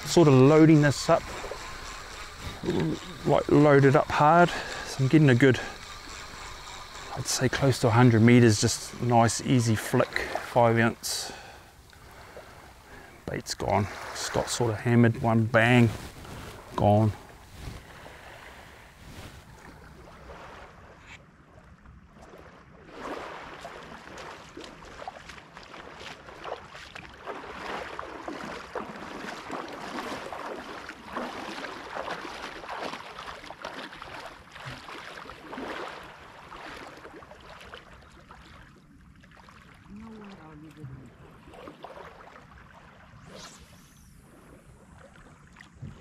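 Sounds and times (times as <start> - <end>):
seawater splashing and lapping: 0.0 - 46.0.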